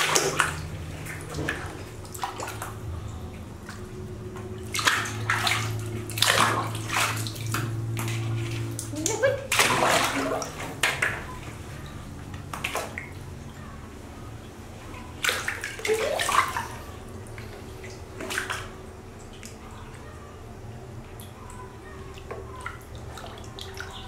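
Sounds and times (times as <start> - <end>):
water splashing in plastic basin: 0.0 - 13.6, 15.1 - 19.6, 21.2 - 24.0.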